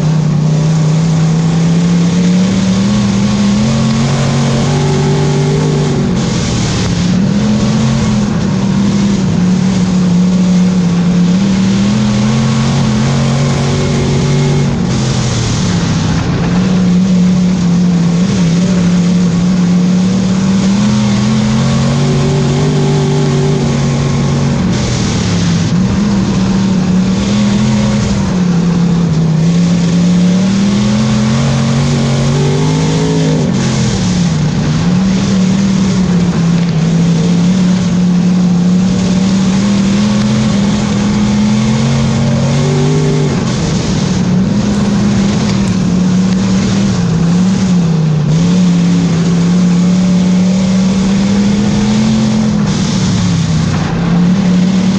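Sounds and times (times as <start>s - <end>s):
race car engine running hard: 0.0s - 54.9s.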